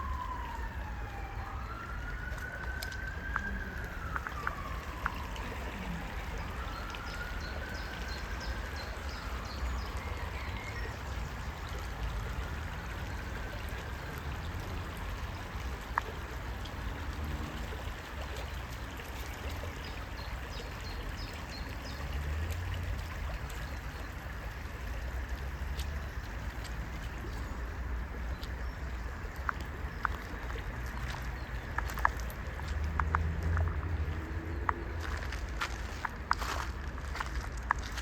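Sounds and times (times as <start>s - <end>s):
faint siren wailing: 0.0s - 37.5s
creek water rippling: 0.0s - 38.0s.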